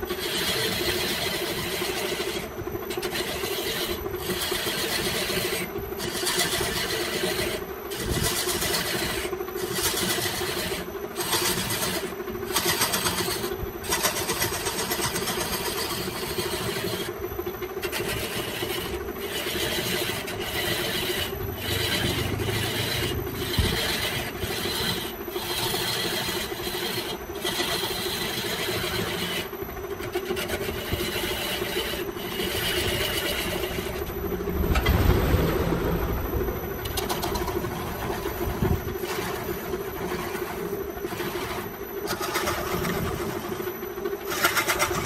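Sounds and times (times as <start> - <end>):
turning tool scraping wood: 0.0 - 35.0, 36.8 - 45.0
lathe motor hum: 0.0 - 45.0.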